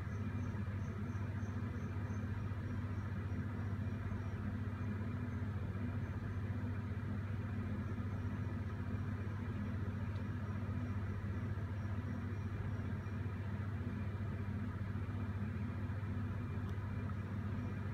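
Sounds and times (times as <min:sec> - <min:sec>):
low machine hum: 0:00.0 - 0:17.9.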